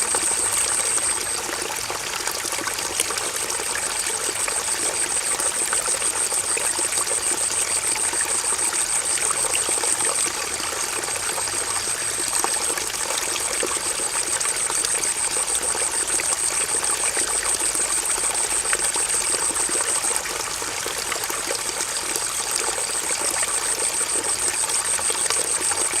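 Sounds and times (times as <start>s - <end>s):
stream water running: 0.0s - 26.0s.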